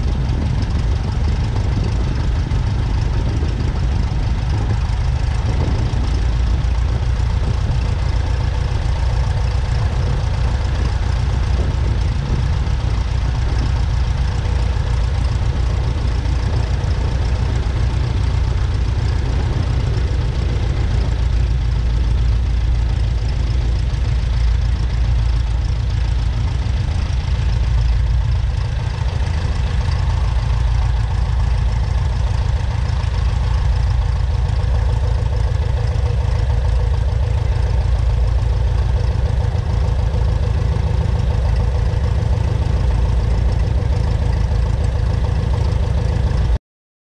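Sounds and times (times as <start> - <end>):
light aircraft engine droning: 0.0 - 46.6.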